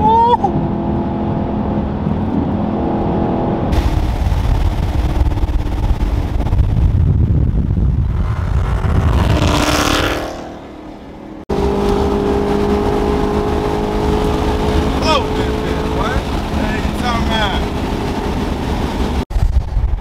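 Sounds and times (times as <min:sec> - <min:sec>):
car engine at highway speed: 0:00.0 - 0:20.0
road noise: 0:00.0 - 0:20.0
rushing sound: 0:02.8 - 0:20.0.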